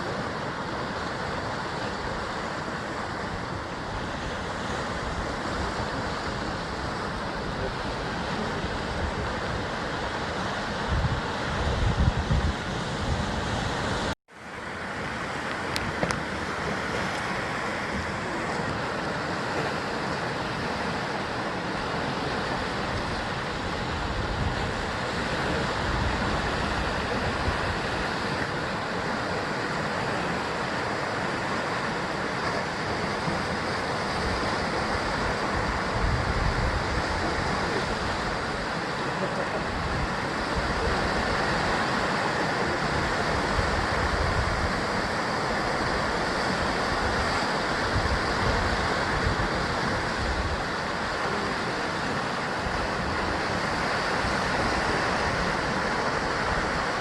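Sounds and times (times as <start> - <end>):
waves breaking on rocky shore: 0.0 - 57.0.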